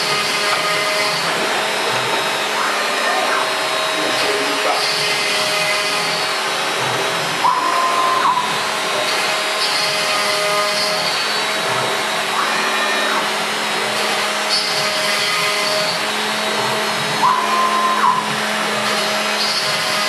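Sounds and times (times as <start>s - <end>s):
high gantry motor whine: 0.0s - 20.0s
router spindle and suction noise: 0.0s - 20.0s.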